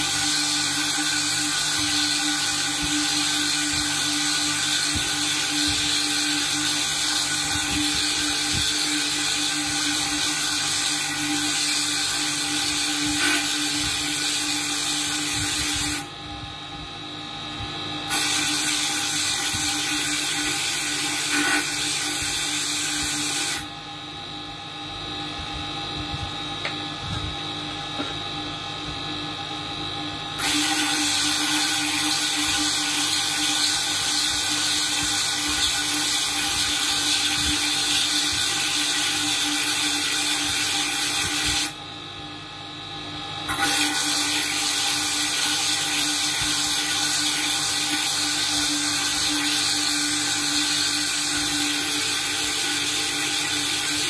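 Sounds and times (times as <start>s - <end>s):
motor whine: 0.0s - 54.0s.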